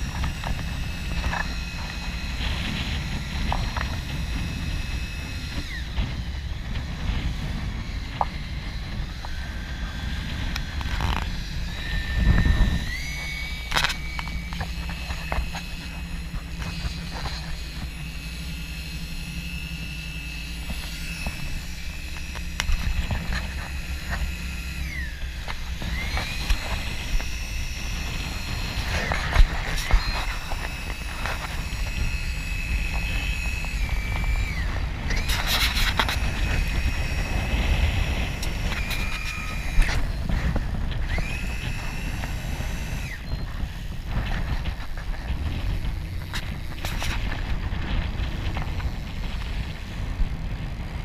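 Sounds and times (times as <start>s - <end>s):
high whine: 0.0s - 51.0s
wind on microphone: 0.0s - 51.0s.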